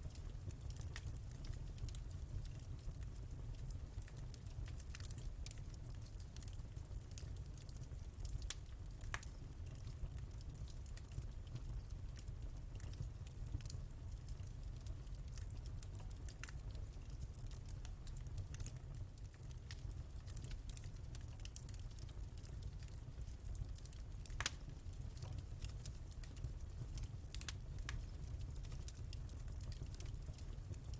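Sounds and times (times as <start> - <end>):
fire popping and snapping: 0.0 - 30.9
low rumble of fire: 0.0 - 30.9.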